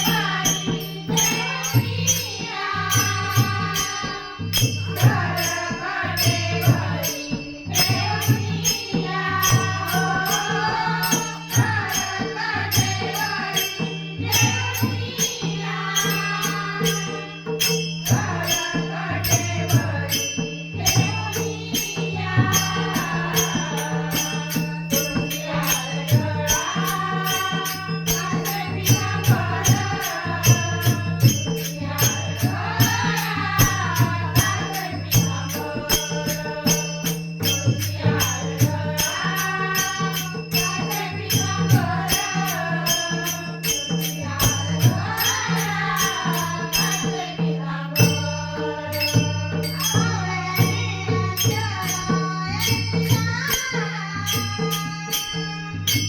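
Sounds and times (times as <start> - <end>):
hand drum: 0.0 - 56.0
jingling metallic percussion: 0.0 - 56.0
woman singing: 0.0 - 56.0.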